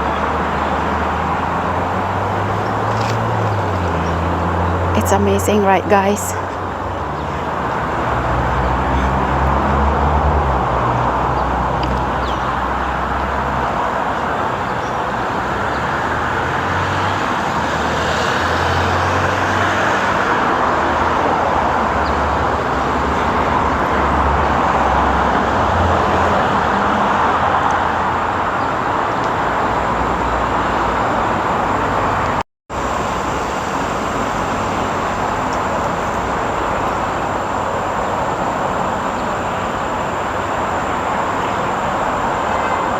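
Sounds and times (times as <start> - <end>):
road traffic rush: 0.0 - 42.9.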